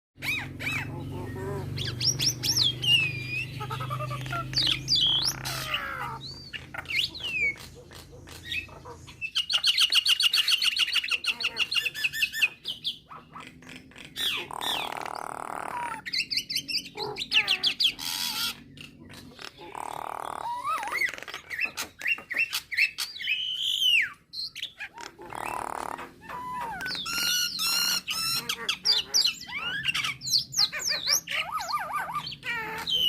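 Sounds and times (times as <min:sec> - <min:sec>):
myna whistling calls: 0:00.2 - 0:13.5, 0:14.2 - 0:33.0.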